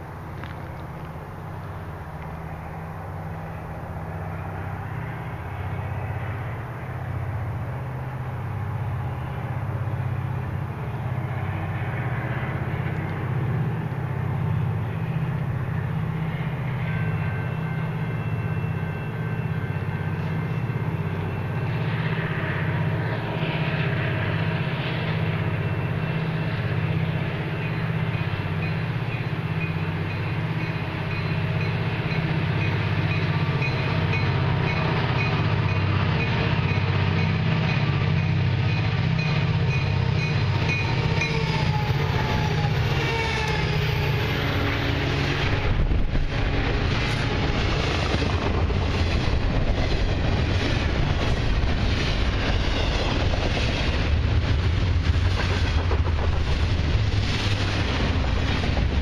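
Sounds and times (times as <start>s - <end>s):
diesel locomotives rumbling: 0.0s - 59.0s.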